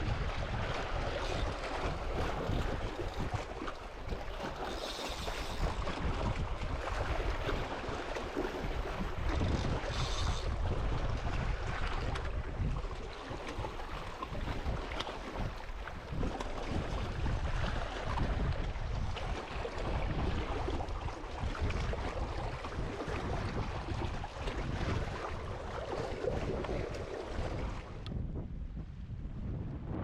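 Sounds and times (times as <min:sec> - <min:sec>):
sea waves on shore: 0:00.0 - 0:28.1
wind buffeting microphone: 0:00.0 - 0:30.0.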